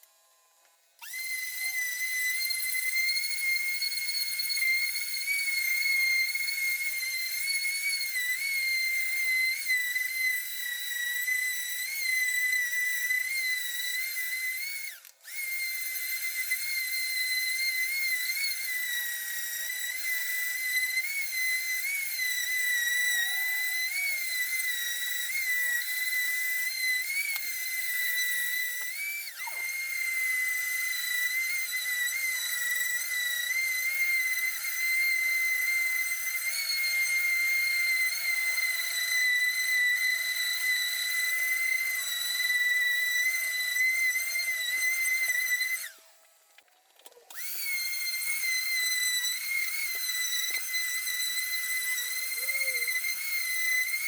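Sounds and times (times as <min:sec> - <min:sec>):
electric sander whining: 0:00.0 - 0:54.0.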